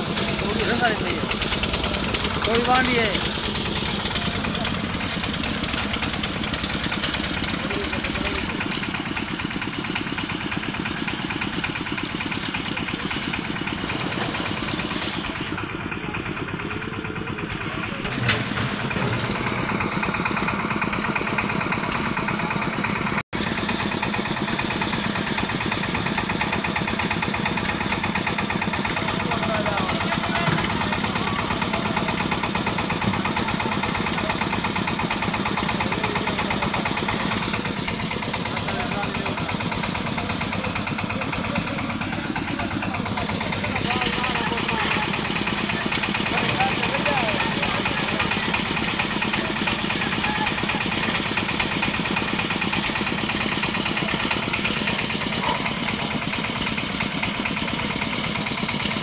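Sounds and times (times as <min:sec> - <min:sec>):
concrete mixer engine running: 0:00.0 - 0:59.0.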